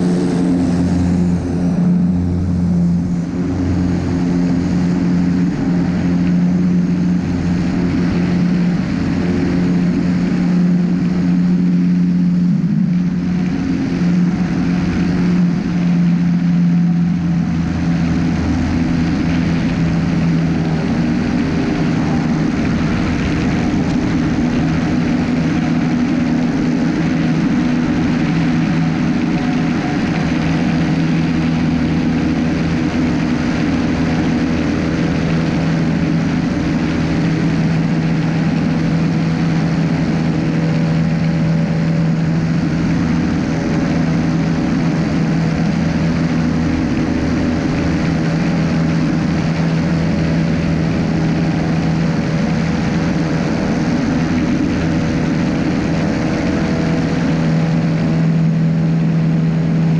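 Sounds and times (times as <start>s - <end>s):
airflow noise: 0.0s - 59.9s
propeller engine drone: 0.0s - 59.9s.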